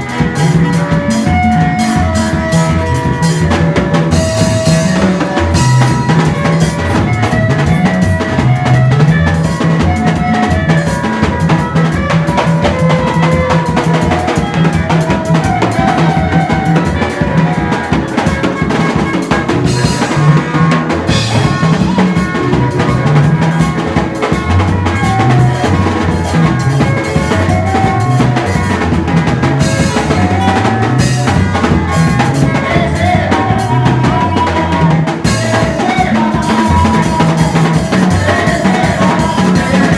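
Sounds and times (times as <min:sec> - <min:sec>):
bass line and melody: 0:00.0 - 0:39.9
drum kit beat: 0:00.0 - 0:39.9.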